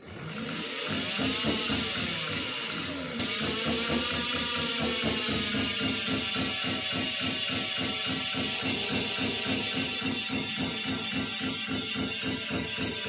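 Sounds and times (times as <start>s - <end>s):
electric scooter motor whining: 0.0s - 13.0s.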